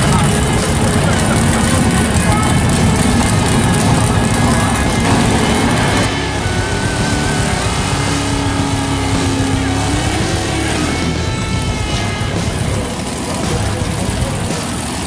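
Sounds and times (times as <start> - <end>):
loud car engine revving: 0.0 - 15.0
tyres spinning: 0.0 - 15.0.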